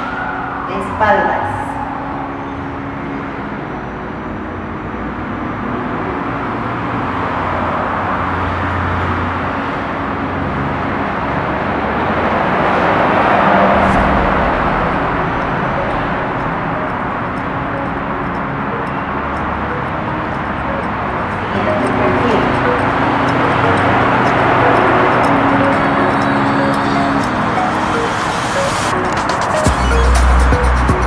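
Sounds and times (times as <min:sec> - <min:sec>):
road traffic rush: 0:00.0 - 0:31.0.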